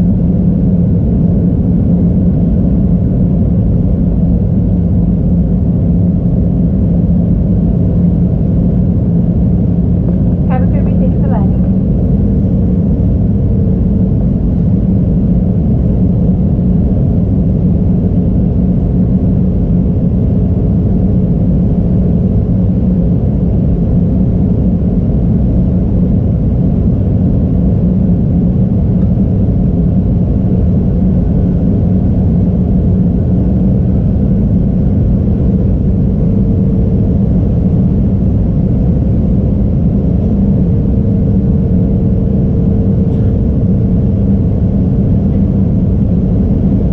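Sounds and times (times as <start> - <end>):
airliner cabin engine rumble: 0.0 - 46.9
constant low hum: 0.0 - 46.9.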